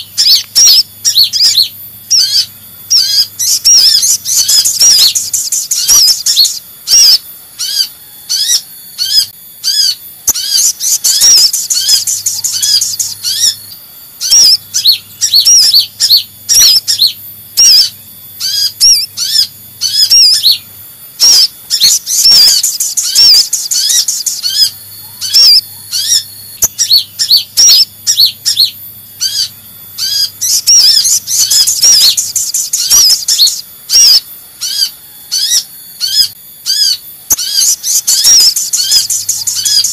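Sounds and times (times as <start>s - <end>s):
dense loud bird twittering: 0.0s - 39.9s
high thin bird chirps: 0.0s - 39.9s.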